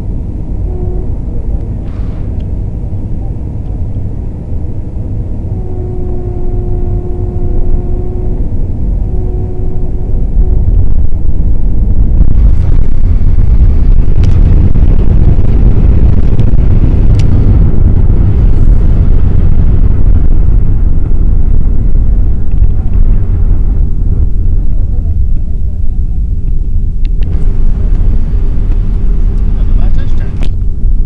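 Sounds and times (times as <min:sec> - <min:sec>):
airplane cabin rumble: 0:00.0 - 0:31.0
steady hum: 0:00.0 - 0:31.0.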